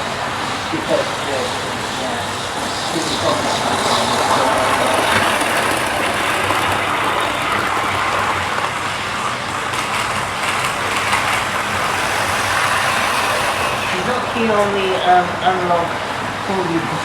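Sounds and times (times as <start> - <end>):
model train motors and wheels: 0.0 - 17.0.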